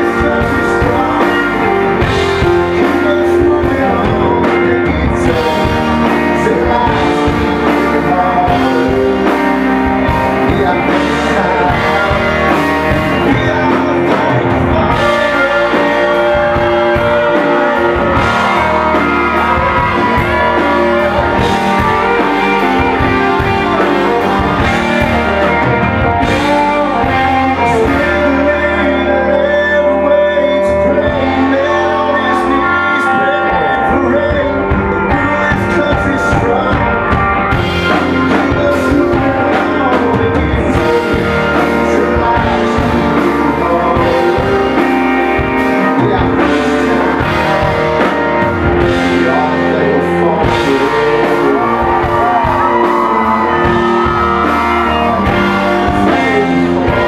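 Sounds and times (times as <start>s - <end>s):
bass: 0.0s - 57.0s
drums: 0.0s - 57.0s
electric guitar: 0.0s - 57.0s
man singing lead vocal: 0.0s - 57.0s.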